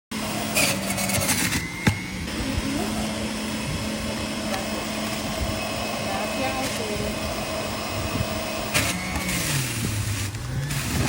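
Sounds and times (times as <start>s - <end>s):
motor running: 0.2s - 11.0s.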